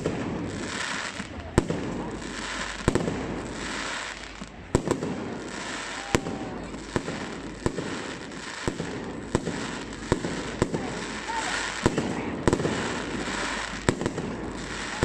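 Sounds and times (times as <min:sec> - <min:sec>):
fireworks bangs: 0:00.0 - 0:15.0
steady background hiss: 0:00.0 - 0:15.0.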